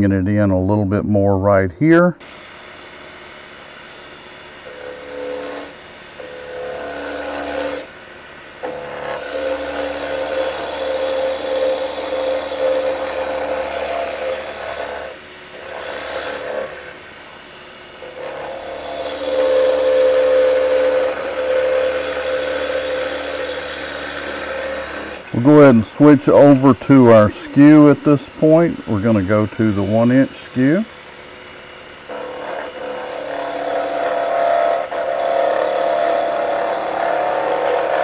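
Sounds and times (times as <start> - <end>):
lathe humming: 1.9 - 38.0
gouge scraping spinning wood: 4.6 - 8.0, 8.6 - 38.0.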